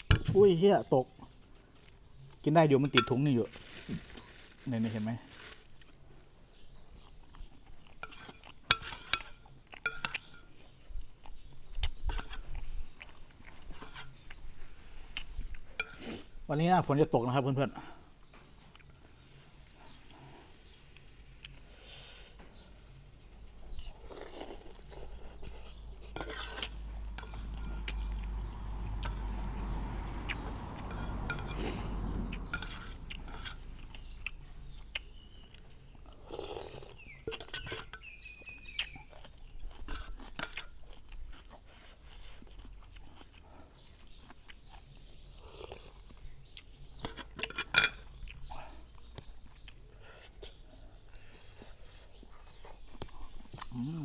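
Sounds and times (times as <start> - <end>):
person chewing: 6.9 - 16.4, 18.6 - 22.2, 23.2 - 54.0.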